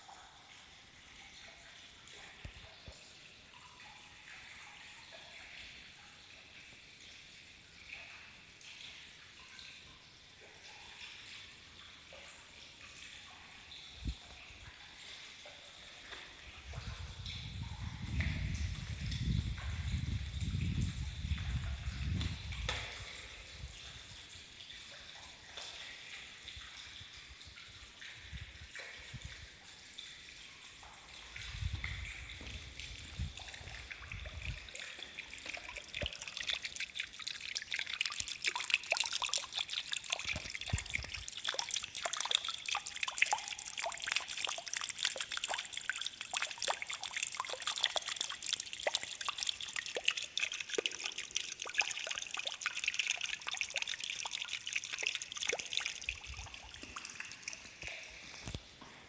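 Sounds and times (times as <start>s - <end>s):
water dripping and trickling: 0.0s - 59.0s.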